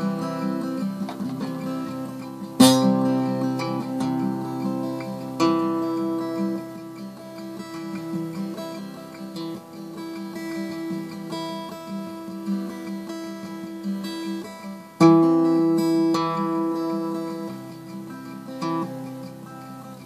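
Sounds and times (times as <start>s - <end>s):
plucked acoustic guitar notes: 0.0s - 20.0s
strummed guitar chord: 0.0s - 20.0s.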